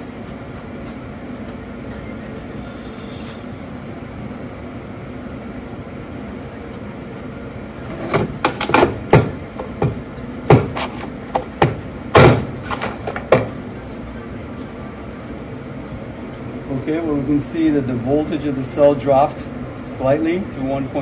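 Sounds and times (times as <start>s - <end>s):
background hum: 0.0s - 21.0s.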